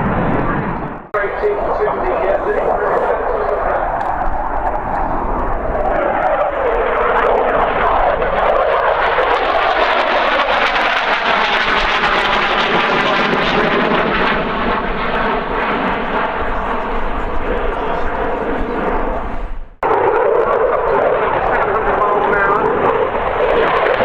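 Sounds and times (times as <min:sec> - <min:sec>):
jet engines in flight: 0:00.0 - 0:24.0.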